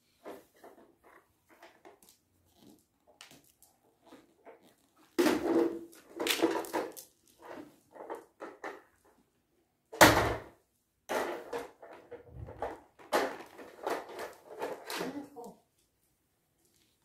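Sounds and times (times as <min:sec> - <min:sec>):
plastic toys knocking and clattering: 0:00.1 - 0:09.3, 0:09.9 - 0:15.6.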